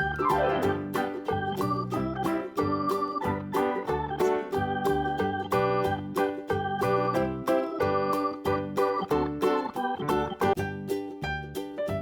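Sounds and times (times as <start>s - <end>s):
keyboard tune with steady beat: 0.0s - 10.6s.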